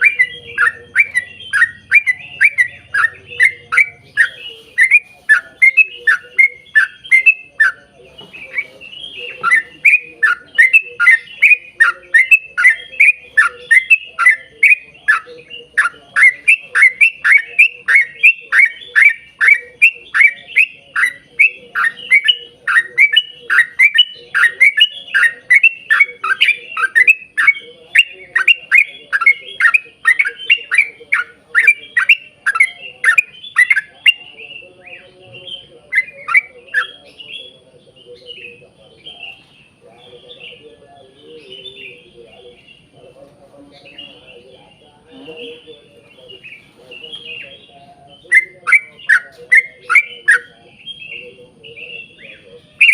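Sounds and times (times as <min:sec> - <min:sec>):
bulbul singing: 0:00.0 - 0:52.9.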